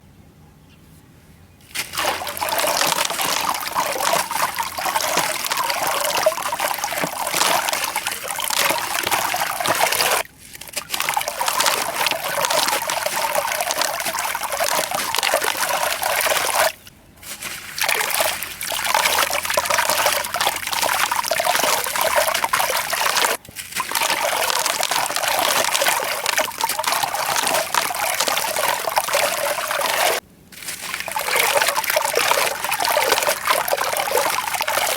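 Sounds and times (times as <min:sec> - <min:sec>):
sand and concrete crumbling: 0:01.7 - 0:34.9.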